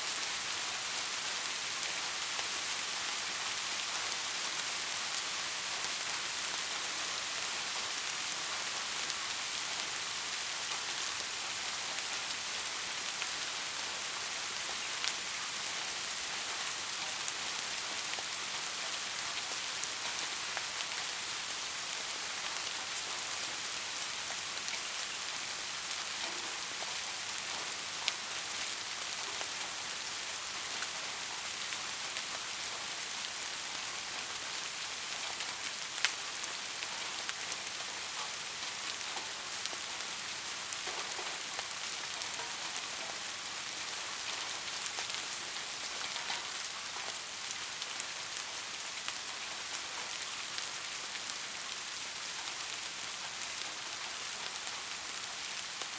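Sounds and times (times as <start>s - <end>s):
white noise hiss: 0.0s - 55.9s.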